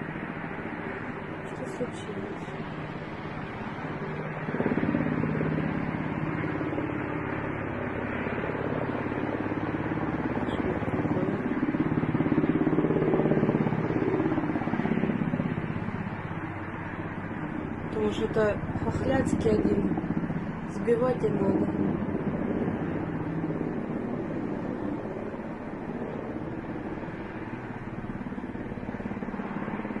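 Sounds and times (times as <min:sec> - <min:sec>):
helicopter flying overhead: 0:00.0 - 0:30.0.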